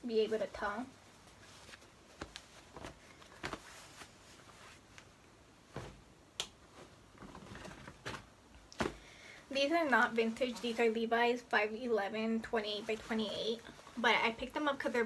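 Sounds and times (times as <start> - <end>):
denim rustling: 0.0 - 11.5, 12.2 - 15.0.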